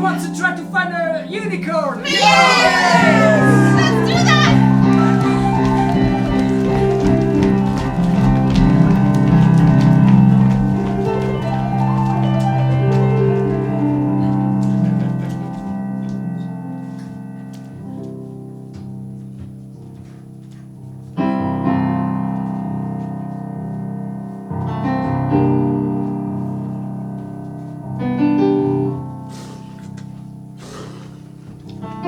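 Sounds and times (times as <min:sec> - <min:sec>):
piano chords: 0:00.0 - 0:30.6.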